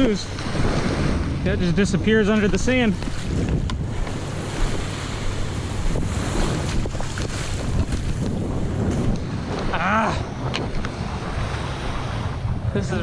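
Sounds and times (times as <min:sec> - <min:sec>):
waves and surf: 0:00.0 - 0:13.0
wind buffeting microphone: 0:00.0 - 0:13.0.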